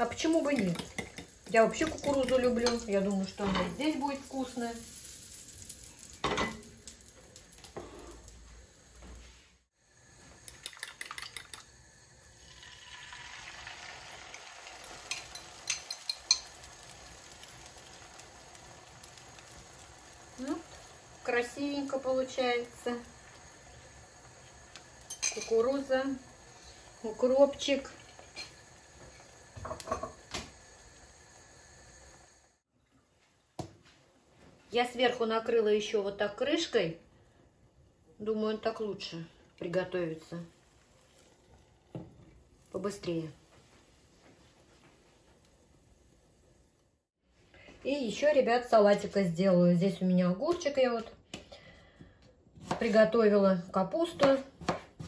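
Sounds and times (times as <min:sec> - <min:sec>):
egg sizzling in a frying pan: 0:00.0 - 0:32.7, 0:34.8 - 0:47.2
faint steady hiss: 0:00.0 - 0:50.2.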